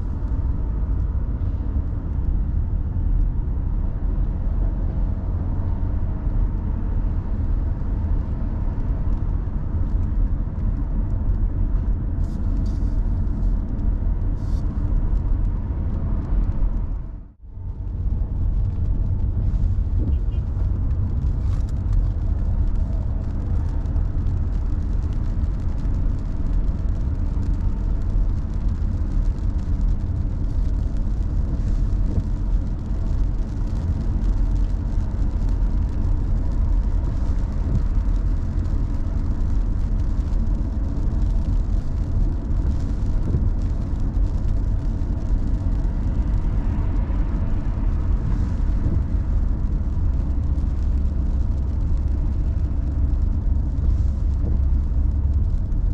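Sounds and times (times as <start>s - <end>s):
car engine and tyre rumble: 0.0s - 55.9s.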